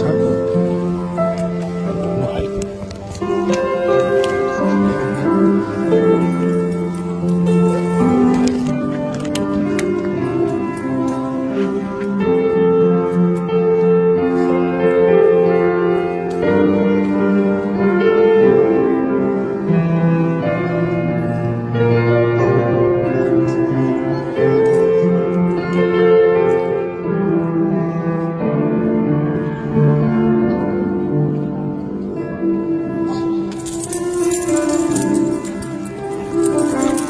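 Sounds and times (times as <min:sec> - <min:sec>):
slow instrumental music: 0:00.0 - 0:37.0.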